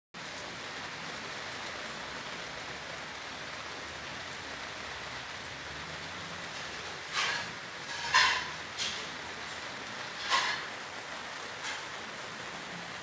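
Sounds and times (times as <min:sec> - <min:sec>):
steady rain falling: 0:00.2 - 0:13.0.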